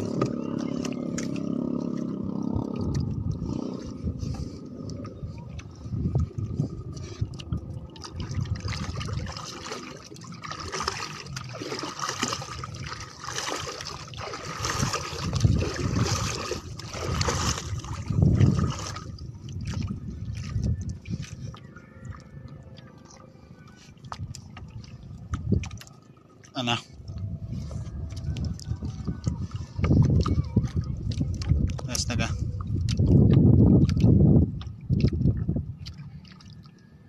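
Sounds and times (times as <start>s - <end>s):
water splashing against a boat: 0.0s - 37.0s
wind rumbling on microphone: 0.0s - 37.0s.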